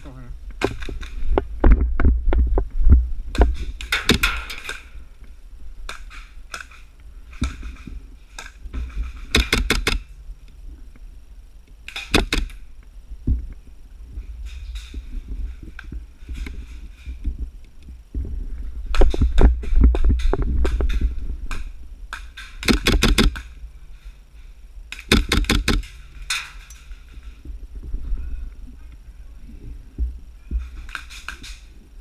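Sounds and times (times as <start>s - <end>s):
low thumping rumble: 0.0s - 26.3s, 26.9s - 30.9s
rapid clicks and rustles: 0.5s - 32.0s.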